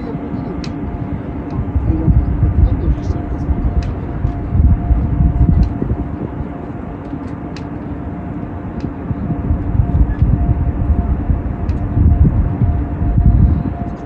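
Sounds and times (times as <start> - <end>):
faint steady hum: 0.0 - 14.0
ship rumbling: 0.0 - 14.0.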